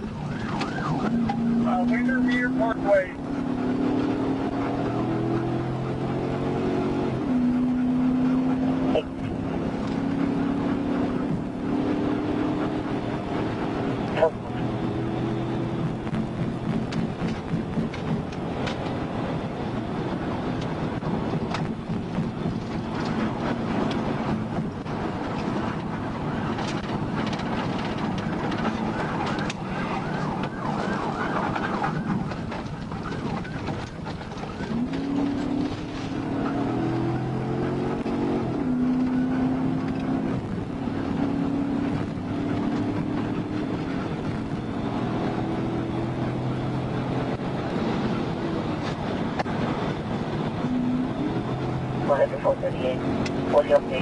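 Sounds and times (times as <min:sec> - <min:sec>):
car engine and road noise: 0:00.0 - 0:54.0
police siren wailing: 0:00.0 - 0:54.0.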